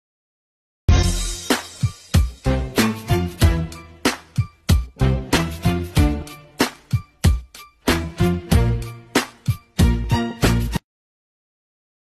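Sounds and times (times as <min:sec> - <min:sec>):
punchy drum beat: 0:00.9 - 0:10.7.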